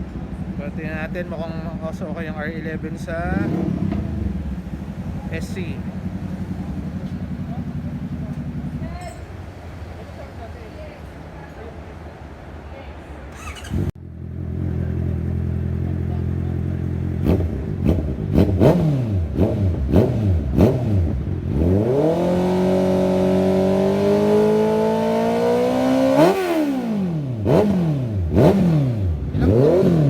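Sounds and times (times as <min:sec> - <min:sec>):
motorcycle engine idling and revving: 0:00.0 - 0:10.6, 0:13.3 - 0:30.0.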